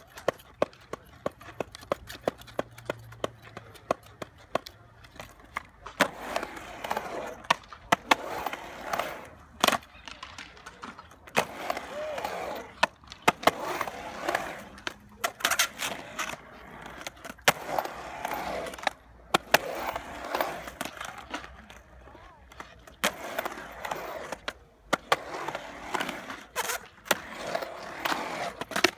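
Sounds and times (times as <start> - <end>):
skateboard clacking on concrete: 0.0 - 28.9
skateboard wheels rolling on concrete: 0.0 - 28.9.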